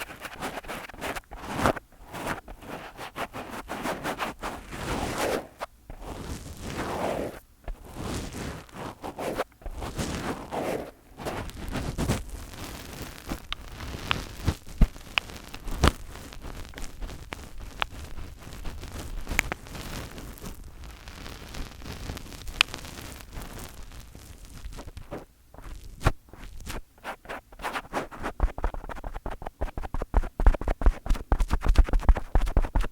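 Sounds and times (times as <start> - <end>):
fingers rubbing a microphone: 0.0 - 32.9.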